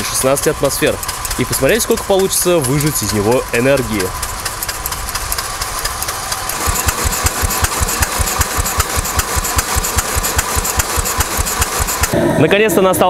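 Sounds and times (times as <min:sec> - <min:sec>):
steam engine beating: 0:00.0 - 0:13.0
steam hissing: 0:00.0 - 0:13.0.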